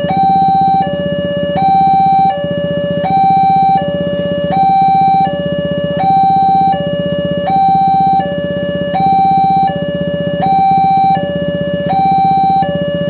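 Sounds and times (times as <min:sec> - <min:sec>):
low buzz: 0:00.0 - 0:13.0
two-tone crossing alarm: 0:00.0 - 0:13.0.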